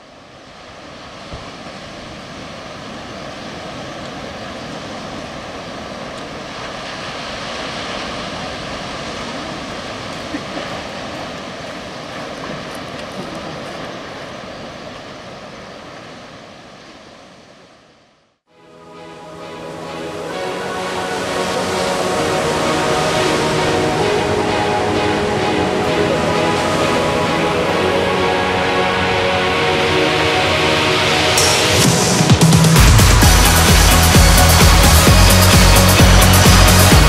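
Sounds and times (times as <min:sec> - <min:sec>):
ocean surf breaking: 0:00.0 - 0:18.0, 0:18.6 - 0:37.0.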